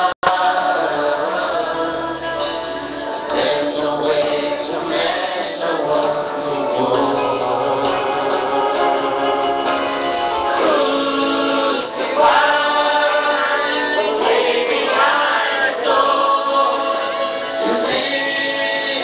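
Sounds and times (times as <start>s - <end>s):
choir singing gospel song: 0.0s - 19.0s
musical accompaniment: 0.0s - 19.0s.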